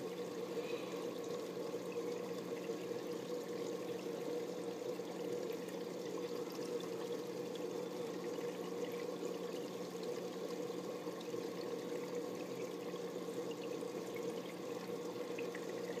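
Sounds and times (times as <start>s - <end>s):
aquarium water trickling: 0.0s - 16.0s.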